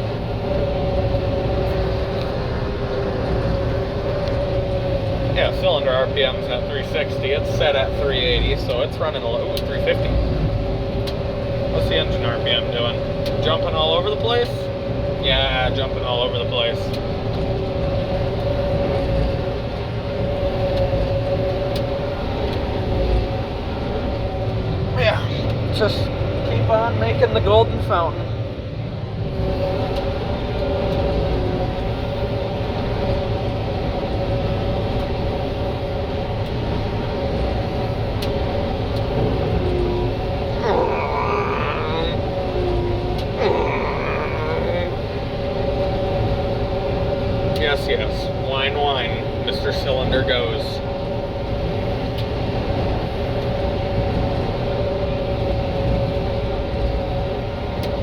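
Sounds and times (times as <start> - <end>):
threshing cylinder whine: 0.0 - 57.8
combine engine and machinery rumble: 0.0 - 58.0.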